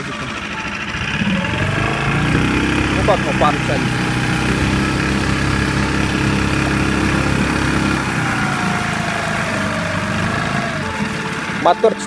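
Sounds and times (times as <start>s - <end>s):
outboard motor running: 0.0s - 12.0s
water rushing: 0.0s - 12.0s.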